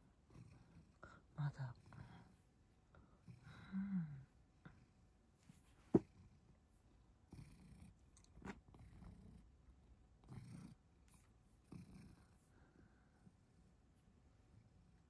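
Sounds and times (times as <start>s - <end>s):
cat purring: 0.0s - 5.2s, 7.2s - 15.0s.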